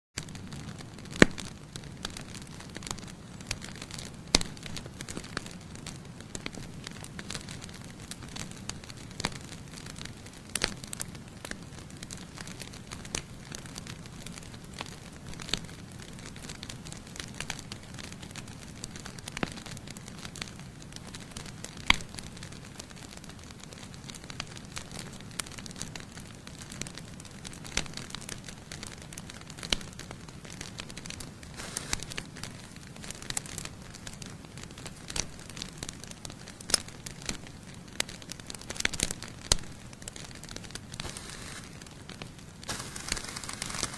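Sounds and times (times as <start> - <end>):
campfire crackling: 0.2 - 43.9
sharp fire pops: 0.2 - 43.9.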